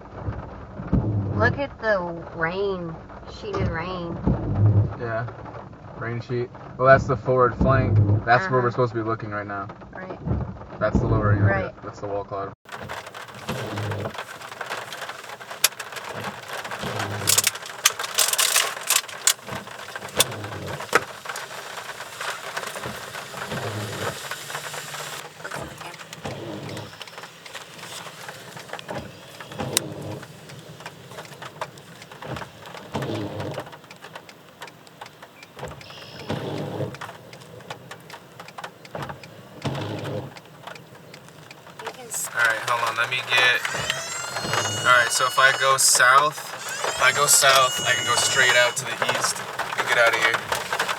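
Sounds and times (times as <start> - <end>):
rain hitting a car: 0.0 - 11.5, 12.6 - 50.9.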